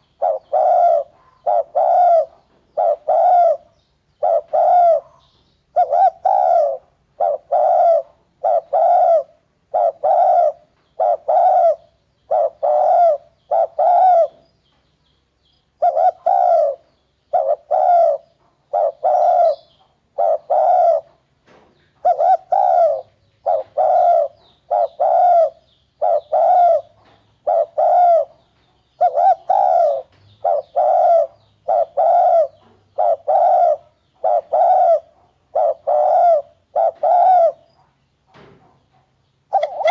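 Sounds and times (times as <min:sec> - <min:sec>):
dove cooing: 0:00.0 - 0:14.4, 0:15.8 - 0:21.2, 0:21.9 - 0:37.9, 0:39.5 - 0:39.9.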